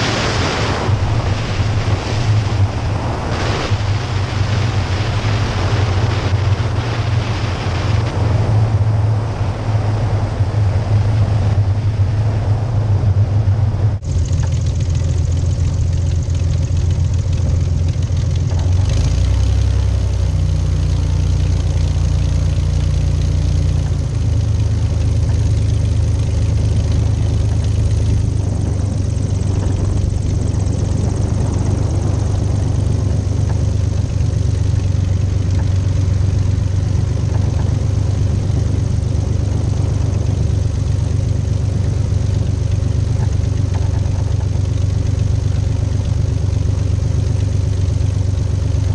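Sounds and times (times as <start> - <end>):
propeller aircraft engine running: 0.0 - 48.9.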